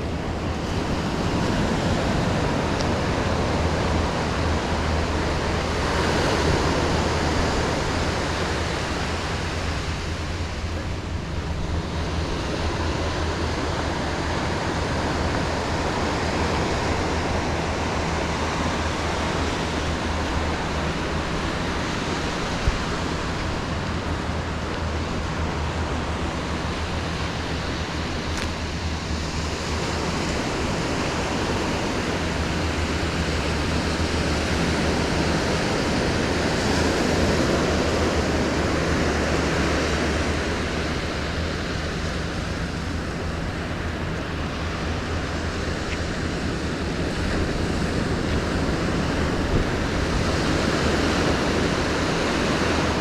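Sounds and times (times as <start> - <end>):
rushing outdoor ambience: 0.0 - 53.0.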